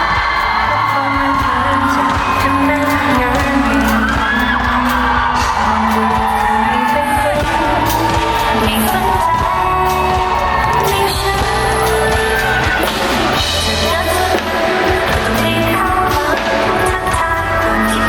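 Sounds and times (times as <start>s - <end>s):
loud pop backing track: 0.0s - 18.0s
woman singing: 0.0s - 18.0s.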